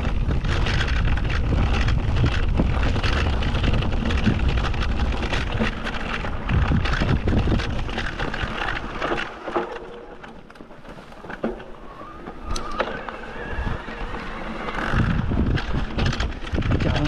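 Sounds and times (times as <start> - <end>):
wind buffeting microphone: 0.0 - 9.4, 10.8 - 17.0
bike knocks and rattles: 0.0 - 13.2, 14.8 - 17.0.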